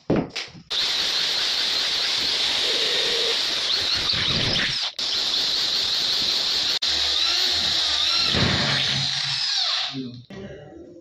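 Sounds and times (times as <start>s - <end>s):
electric drill squealing in metal: 0.7s - 10.1s.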